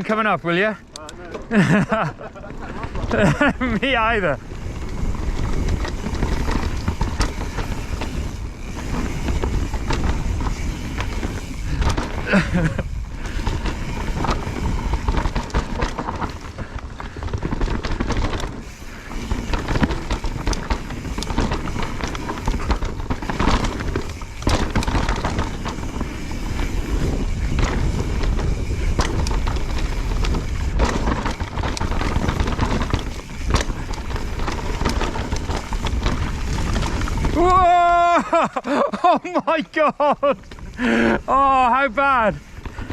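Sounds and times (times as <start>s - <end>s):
bike rattling over bumps: 0.0s - 42.9s
bike tyres rolling on dirt: 0.0s - 42.9s
wind buffeting microphone: 2.4s - 38.6s.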